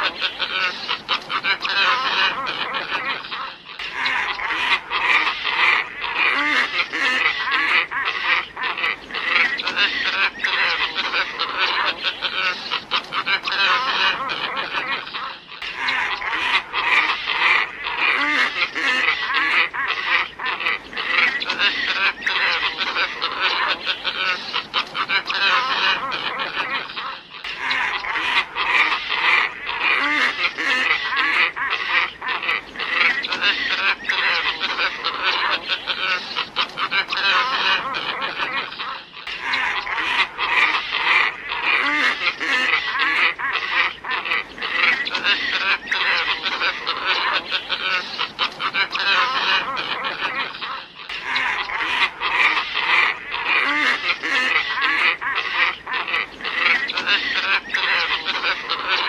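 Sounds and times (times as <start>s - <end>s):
ibis flock harsh calls: 0.0s - 59.0s.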